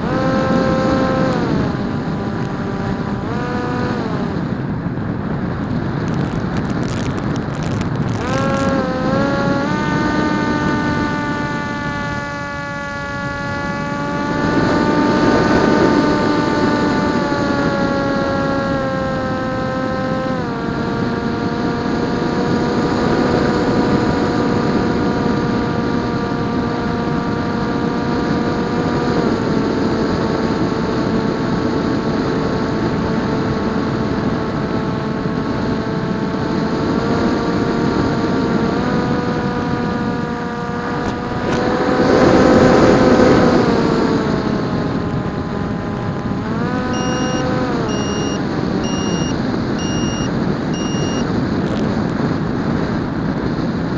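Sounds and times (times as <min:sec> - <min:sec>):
electric motor and propeller droning: 0:00.0 - 0:53.9.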